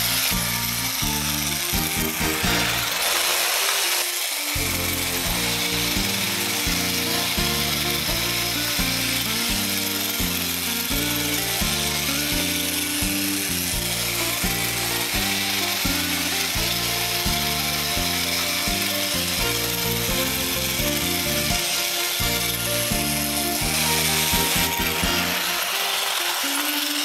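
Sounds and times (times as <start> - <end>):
background music: 0.0 - 3.6, 4.5 - 27.0
toy train motor whirring: 0.0 - 27.0
toy train wheels on plastic track: 0.0 - 27.0.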